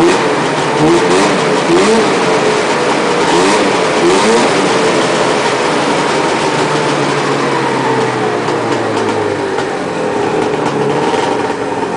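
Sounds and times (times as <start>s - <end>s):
snowmobile engine idling: 0.0s - 11.9s.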